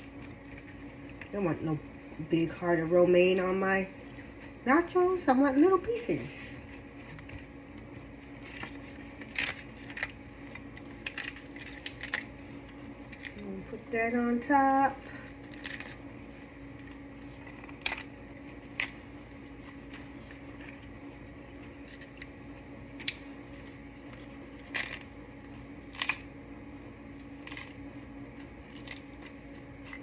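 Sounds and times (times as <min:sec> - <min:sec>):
lettuce on tortilla chips crackling: 0:00.0 - 0:13.7, 0:15.0 - 0:30.0.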